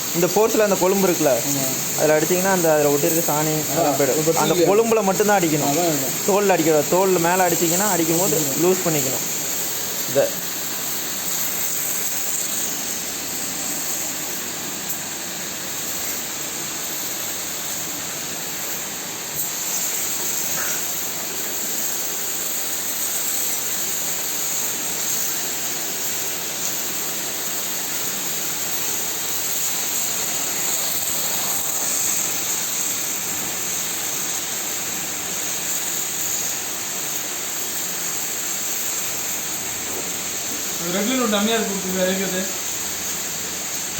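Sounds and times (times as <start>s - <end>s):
high-pressure water jet hissing: 0.0s - 43.9s.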